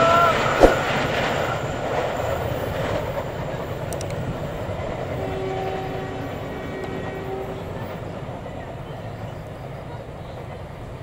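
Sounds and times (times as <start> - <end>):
passenger train rolling on rails: 0.0 - 11.0.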